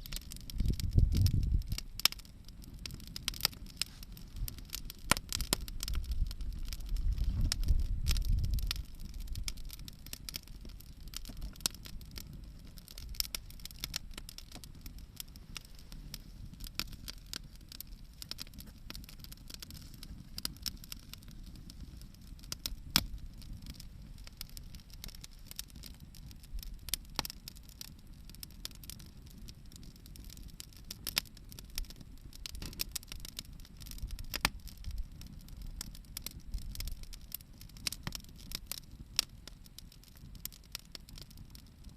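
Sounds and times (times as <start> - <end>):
bonfire crackling and popping: 0.0 - 41.9.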